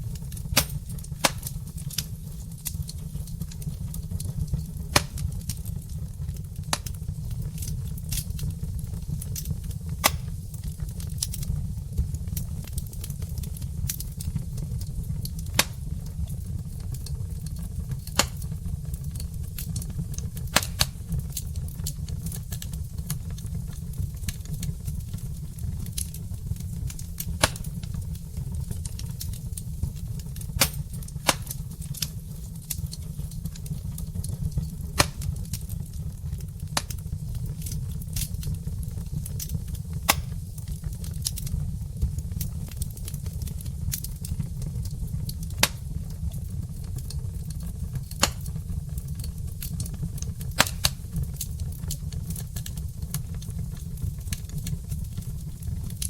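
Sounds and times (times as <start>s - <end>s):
fire crackles and pops: 0.0s - 56.0s
low rumble of flames: 0.0s - 56.0s.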